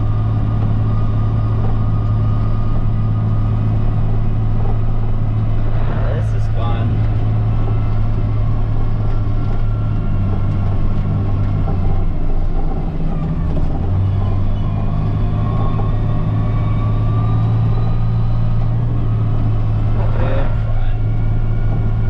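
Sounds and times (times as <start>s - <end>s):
diesel engine under load: 0.0s - 22.0s
faint rising whine: 0.0s - 22.0s.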